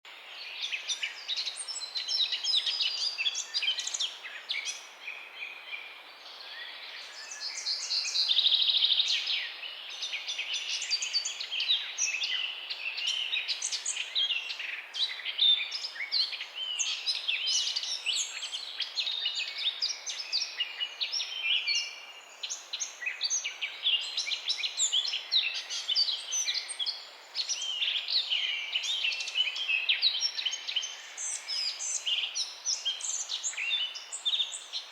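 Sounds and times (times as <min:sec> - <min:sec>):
songbirds chirping and singing: 0:00.1 - 0:34.9.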